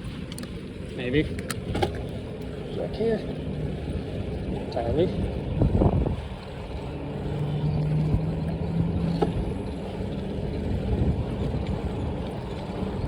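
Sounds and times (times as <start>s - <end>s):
road noise: 0.0s - 13.0s
steady low hum: 0.0s - 13.0s
wind rumbling on microphone: 0.0s - 13.0s.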